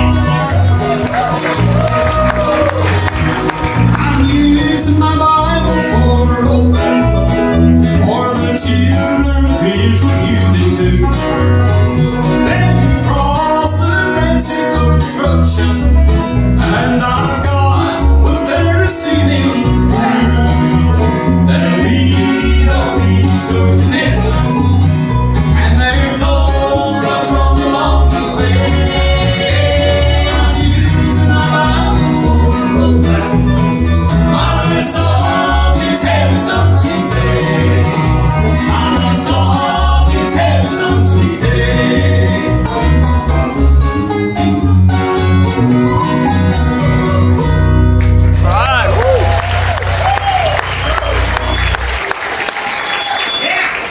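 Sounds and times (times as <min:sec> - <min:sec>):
bluegrass band playing: 0:00.0 - 0:53.9.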